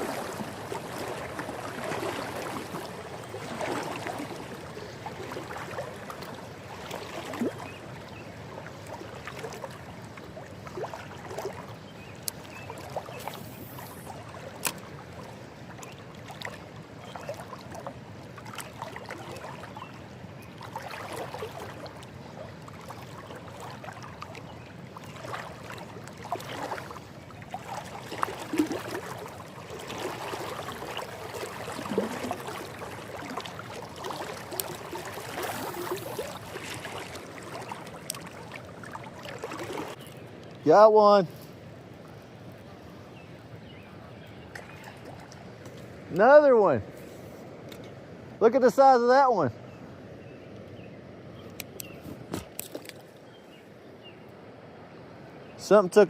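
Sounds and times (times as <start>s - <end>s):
river water lapping and flowing: 0.0s - 56.0s.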